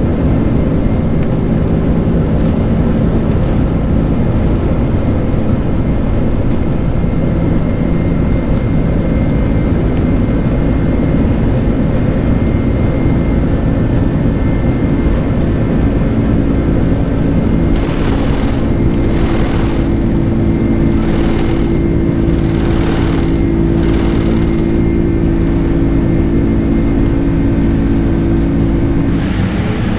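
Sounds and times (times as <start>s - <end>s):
jet engines rumbling in cabin: 0.0s - 29.9s.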